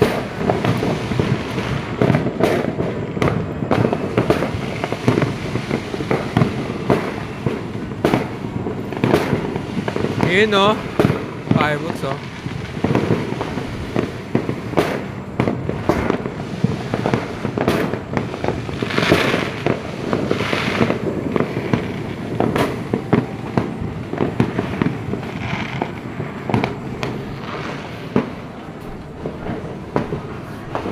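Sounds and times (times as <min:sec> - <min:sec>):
firecrackers popping and banging: 0:00.0 - 0:30.9
fireworks hissing: 0:00.0 - 0:30.9.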